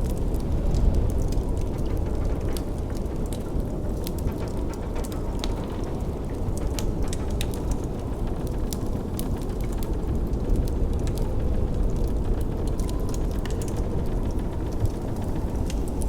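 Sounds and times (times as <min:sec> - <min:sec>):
blizzard wind rushing: 0:00.0 - 0:16.0
wood fire crackling: 0:00.0 - 0:16.0.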